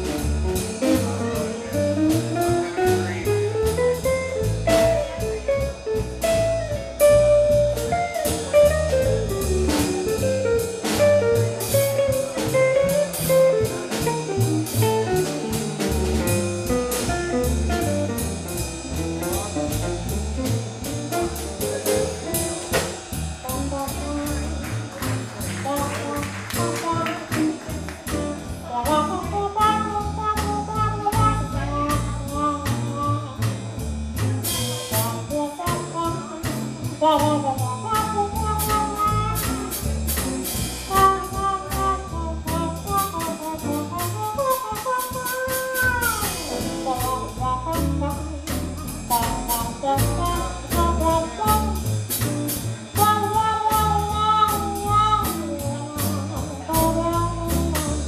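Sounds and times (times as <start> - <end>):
drums: 0.0 - 58.0
guitar: 0.0 - 58.0
upright bass: 0.0 - 58.0.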